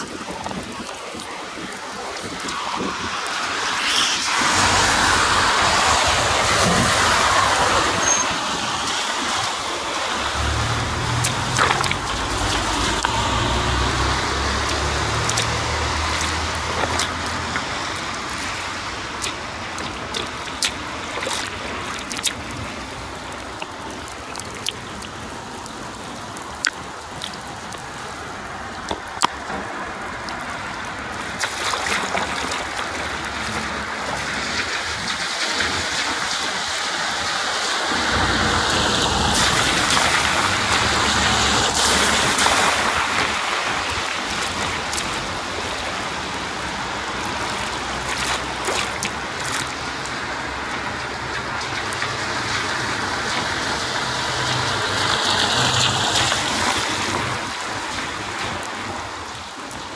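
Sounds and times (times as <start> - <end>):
footsteps splashing in puddles: 0.0 - 59.9
rain pattering on pavement: 0.0 - 59.9
rushing noise with low rumble: 0.0 - 59.9.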